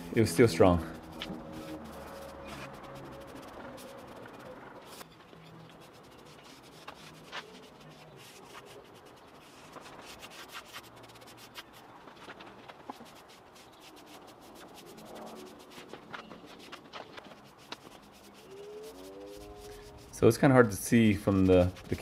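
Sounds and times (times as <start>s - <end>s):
rubbing and scratching on wood: 0.4s - 22.0s.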